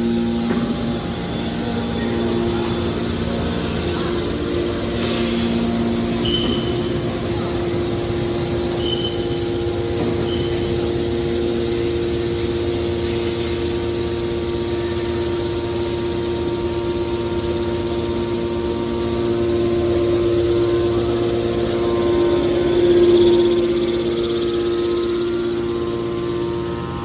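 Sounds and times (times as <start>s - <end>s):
baler compactor machine hum: 0.0s - 27.0s.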